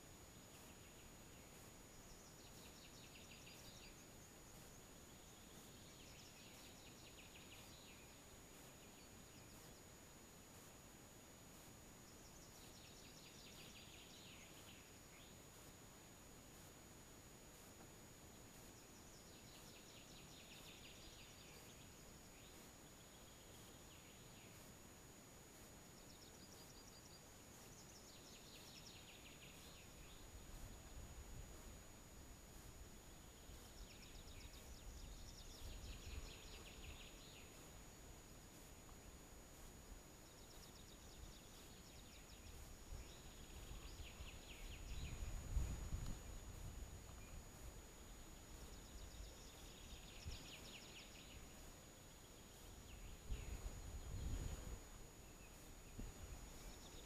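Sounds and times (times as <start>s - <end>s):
faint birdsong: 0.0s - 57.0s
faint songbird song: 0.0s - 57.0s.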